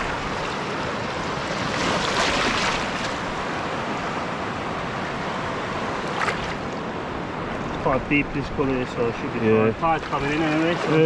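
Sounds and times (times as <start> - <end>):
surf washing over sand: 0.0 - 11.0.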